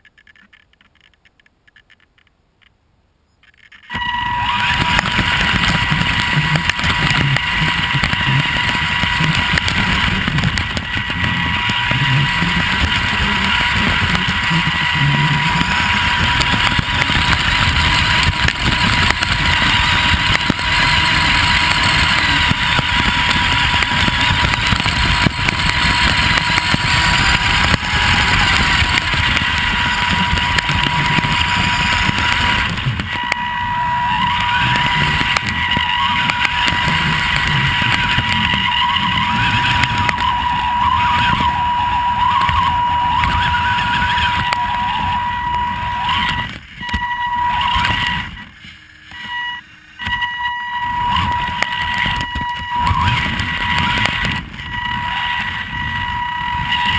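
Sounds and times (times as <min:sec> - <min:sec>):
chassis and tyres rumbling: 0:03.7 - 0:56.9
electric motor whine: 0:03.9 - 0:56.9.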